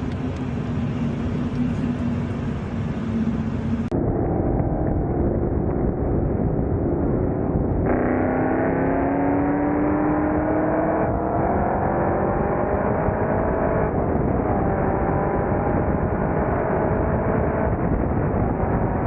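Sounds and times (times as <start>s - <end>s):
road noise: 0.0s - 19.0s
sports car engine at speed: 0.0s - 19.0s.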